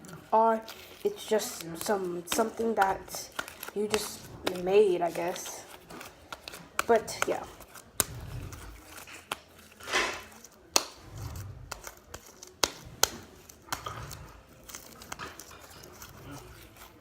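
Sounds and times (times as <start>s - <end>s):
slime squelch: 0.0s - 17.0s.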